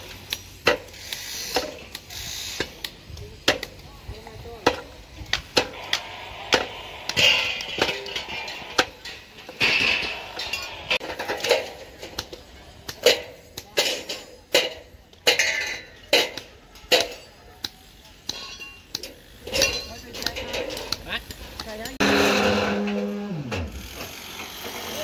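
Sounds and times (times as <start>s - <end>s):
steel tools clanking on concrete: 4.6s - 25.0s.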